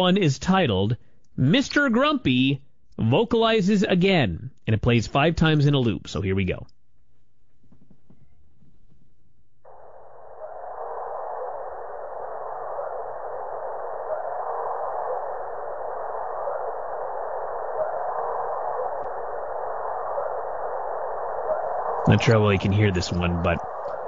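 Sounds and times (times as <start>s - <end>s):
filtered steady hiss: 0.0s - 24.0s.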